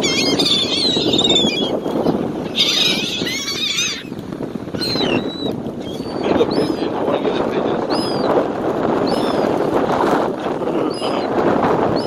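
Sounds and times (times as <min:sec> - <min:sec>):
gulls squawking: 0:00.0 - 0:08.4, 0:09.0 - 0:09.6, 0:10.6 - 0:11.4.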